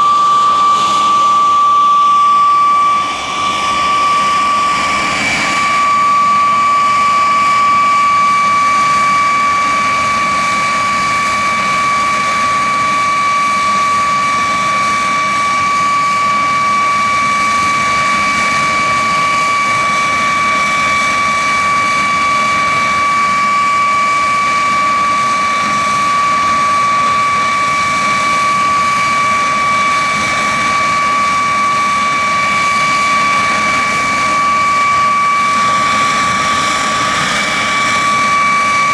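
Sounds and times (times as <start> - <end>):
turbojet engine running: 0.0 - 38.9.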